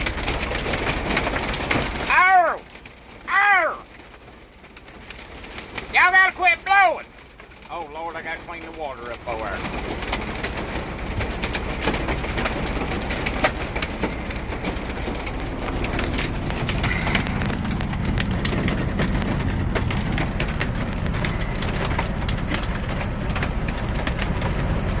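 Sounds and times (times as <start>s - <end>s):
hail hitting a truck: 0.0s - 25.0s
rain rushing: 0.0s - 25.0s
wind: 0.0s - 25.0s.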